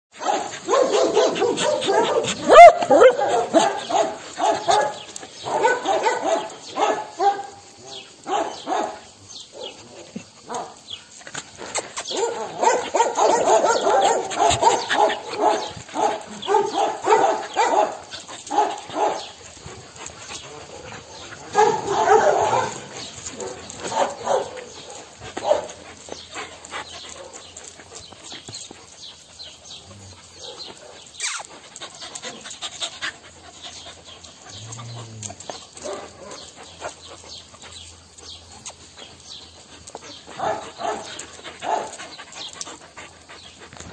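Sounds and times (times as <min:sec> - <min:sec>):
dogs whining and yelping: 0:00.7 - 0:06.6, 0:11.8 - 0:43.9.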